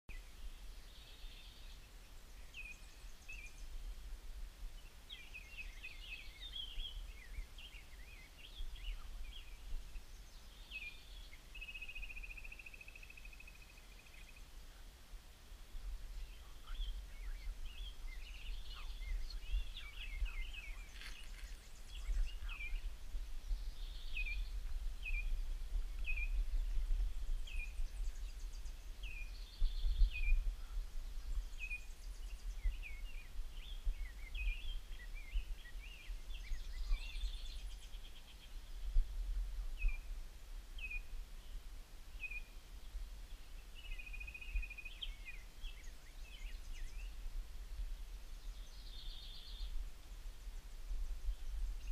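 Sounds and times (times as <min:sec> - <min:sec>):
birds singing: 0:00.1 - 0:04.0, 0:04.8 - 0:14.8, 0:16.0 - 0:38.9, 0:42.2 - 0:47.2, 0:48.4 - 0:49.8.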